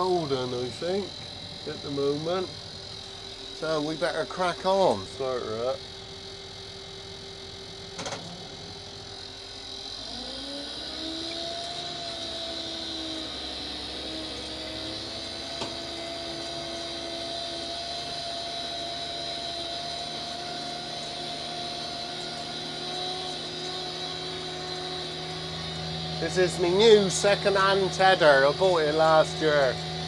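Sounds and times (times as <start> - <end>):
tractor engine running: 0.0 - 11.0, 11.6 - 30.0.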